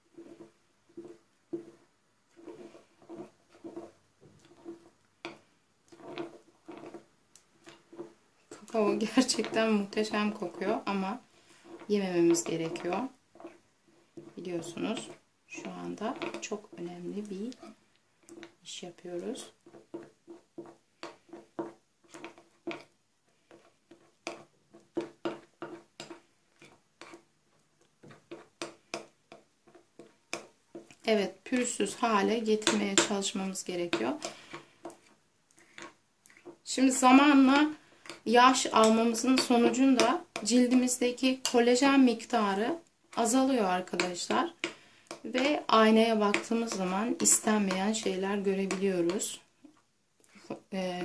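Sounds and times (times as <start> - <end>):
spoon scraping a bowl: 0.1 - 18.5, 19.4 - 27.3, 28.0 - 29.1, 31.6 - 41.7, 43.9 - 49.2.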